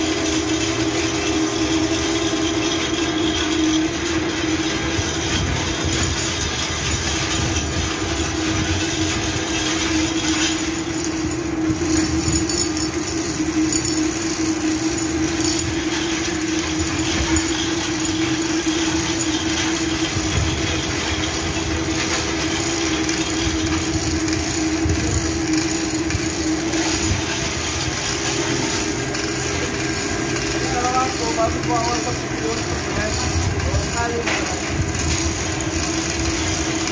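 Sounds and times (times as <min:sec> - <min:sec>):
engine-room machinery drone: 0:00.0 - 0:36.9.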